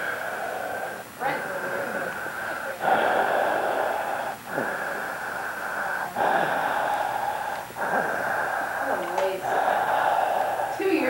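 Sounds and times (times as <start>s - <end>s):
person breathing with wheeze: 0.0s - 11.0s.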